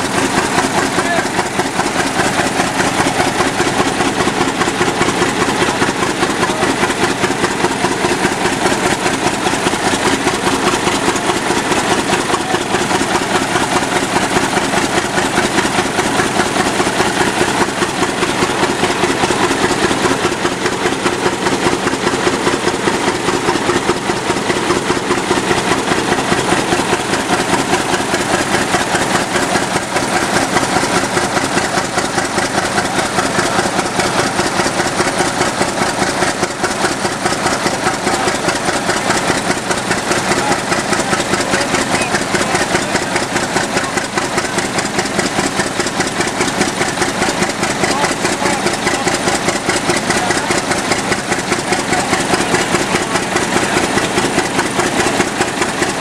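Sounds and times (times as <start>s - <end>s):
fire engine running: 0.0s - 56.0s
hose stream flowing: 0.0s - 56.0s.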